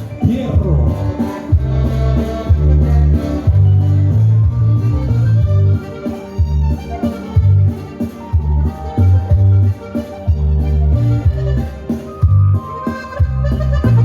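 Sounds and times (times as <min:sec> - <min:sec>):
dance band playing a waltz: 0:00.0 - 0:14.0
pulsing bass line: 0:00.0 - 0:14.0.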